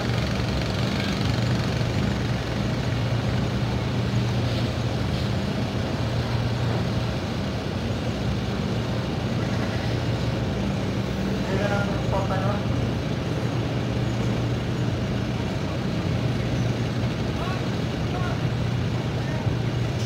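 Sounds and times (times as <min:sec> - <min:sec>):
ship engine humming: 0:00.0 - 0:20.0.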